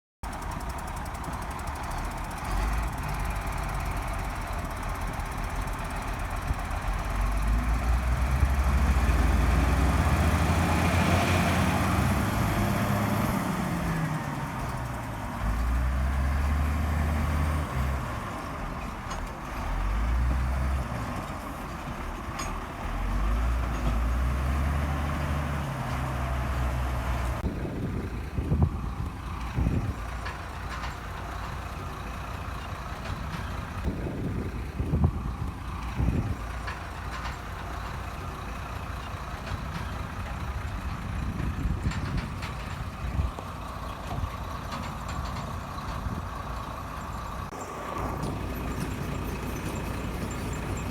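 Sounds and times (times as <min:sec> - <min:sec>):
heavy diesel machinery engines revving: 0:00.2 - 0:50.9.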